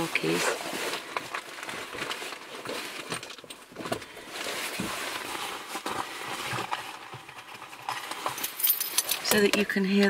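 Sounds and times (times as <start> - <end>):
jacket fabric rustling: 0.0 - 9.1.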